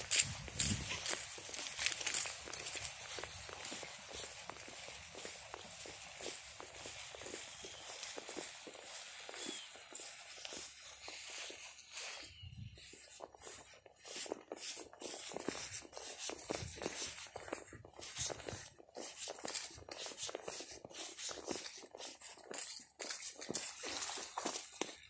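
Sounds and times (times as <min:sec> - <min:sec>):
footsteps through dry grass: 0:00.0 - 0:25.0.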